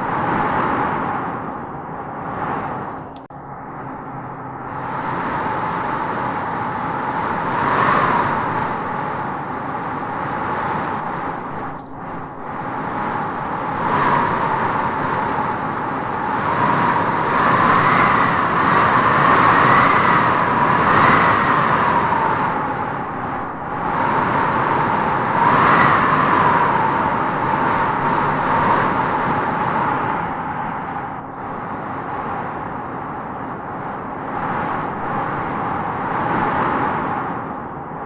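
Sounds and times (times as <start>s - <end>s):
wind howling in gusts: 0.0s - 38.0s.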